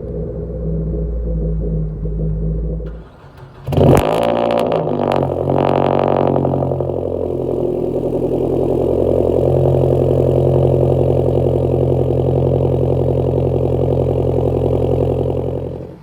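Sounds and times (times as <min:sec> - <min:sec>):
car engine exhaust drone: 0:00.0 - 0:16.0.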